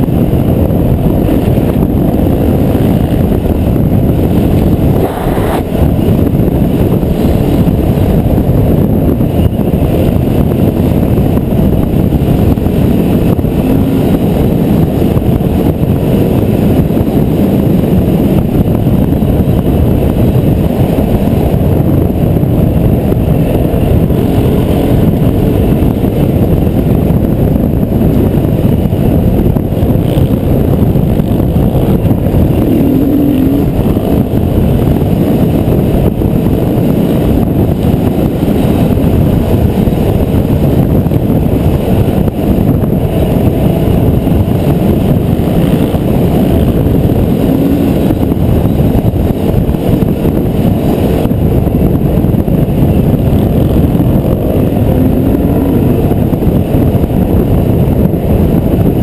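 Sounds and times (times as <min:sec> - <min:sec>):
wind rush over microphone: 0:00.0 - 0:59.0.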